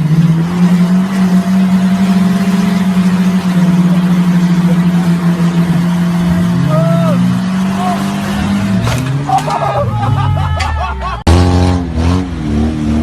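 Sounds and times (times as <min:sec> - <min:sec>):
engine at high revs: 0:00.0 - 0:10.5, 0:11.1 - 0:13.0.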